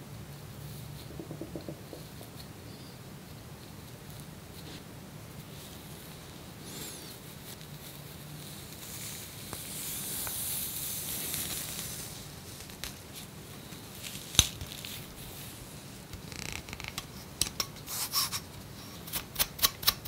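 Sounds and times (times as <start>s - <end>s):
scratching dry skin: 0.6s - 19.4s.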